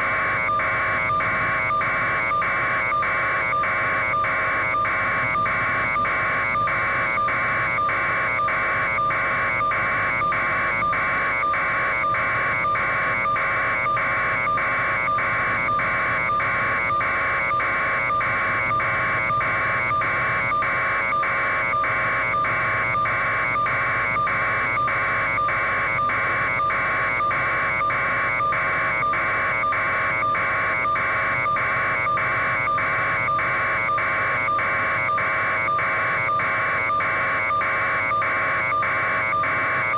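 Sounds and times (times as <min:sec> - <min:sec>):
constant hum: 0:00.0 - 0:39.9.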